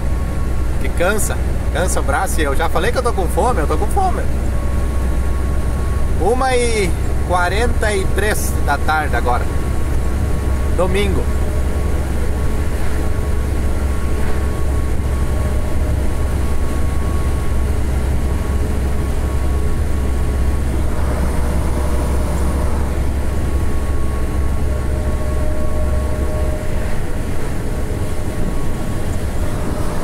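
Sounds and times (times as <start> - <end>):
faint steady whine: 0.0 - 30.0
truck engine and road drone: 0.0 - 30.0.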